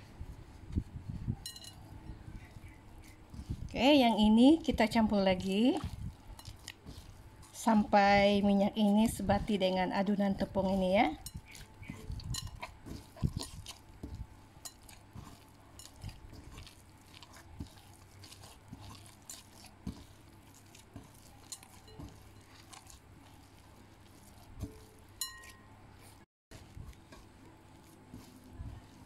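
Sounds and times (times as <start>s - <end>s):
dough squelching and slapping: 0.0s - 29.0s.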